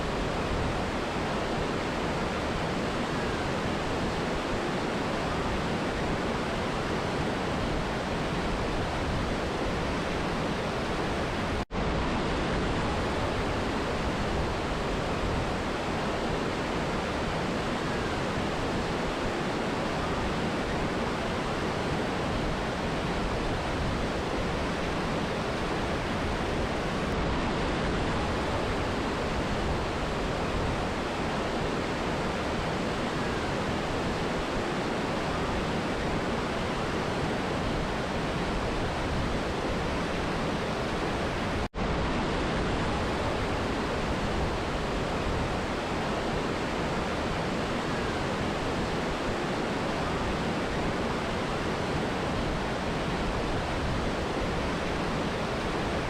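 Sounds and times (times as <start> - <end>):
river and waterfall rushing: 0.0 - 56.0.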